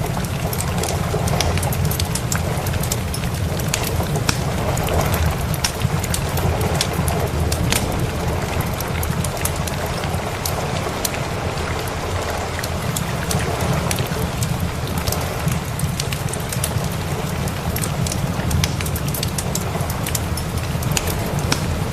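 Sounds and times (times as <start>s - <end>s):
heavy rain: 0.0s - 21.9s
low continuous rumble: 0.0s - 21.9s
wood fire crackling: 0.0s - 21.9s.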